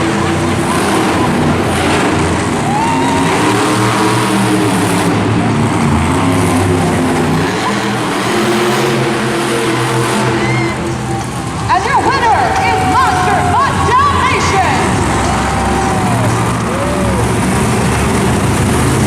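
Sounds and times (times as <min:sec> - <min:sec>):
monster truck engine running: 0:00.0 - 0:19.0.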